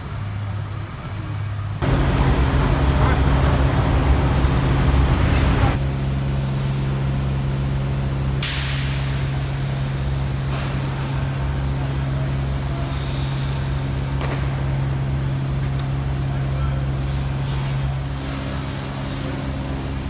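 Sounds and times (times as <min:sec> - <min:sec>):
construction machinery drone: 0:00.0 - 0:20.0.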